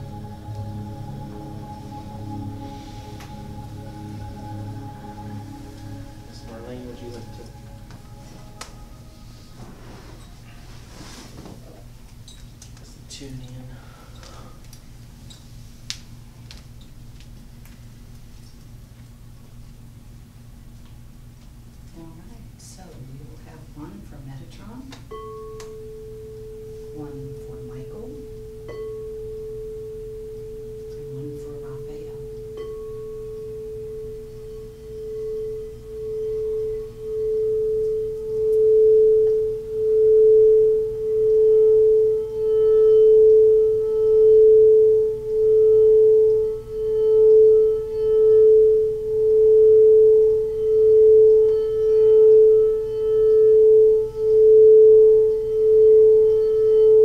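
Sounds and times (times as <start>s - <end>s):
singing bowl steady tone: 0.0s - 12.3s, 18.7s - 57.0s.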